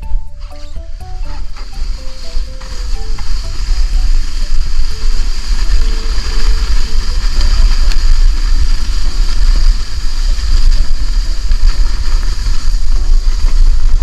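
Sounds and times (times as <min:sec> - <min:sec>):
sled sliding over snow: 0:00.0 - 0:14.0
wind rumble on microphone: 0:01.2 - 0:14.0.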